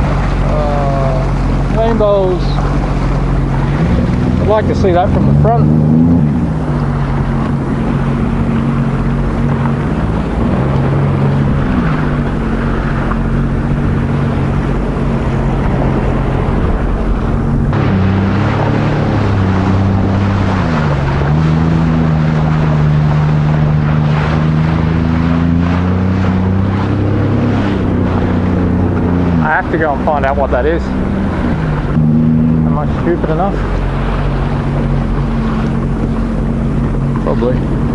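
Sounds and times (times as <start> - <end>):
jet ski engine revving: 0.0 - 37.9
water rushing: 0.0 - 37.9.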